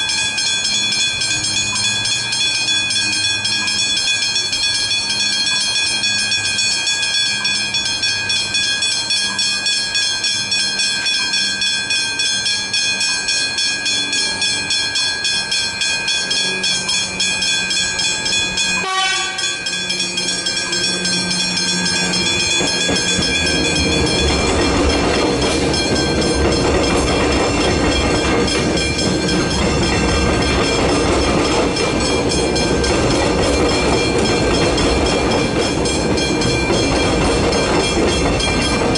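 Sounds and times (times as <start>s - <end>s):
level crossing warning bells: 0.0s - 38.9s
train wheels rumbling on rails: 0.0s - 38.9s.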